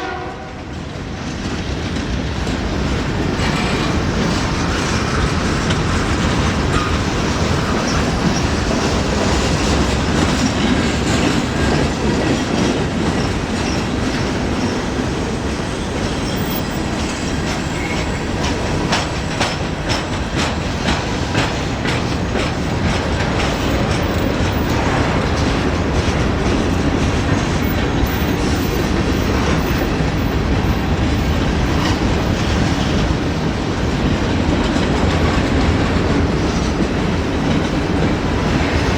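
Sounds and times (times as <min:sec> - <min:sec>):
train wheels rumbling on rail: 0:00.0 - 0:38.9
wheels clacking over rail joints: 0:00.8 - 0:38.9.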